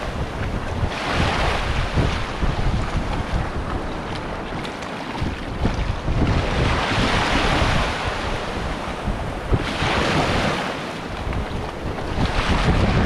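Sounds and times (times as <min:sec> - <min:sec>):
rushing water: 0:00.0 - 0:13.0
wind buffeting microphone: 0:00.0 - 0:13.0.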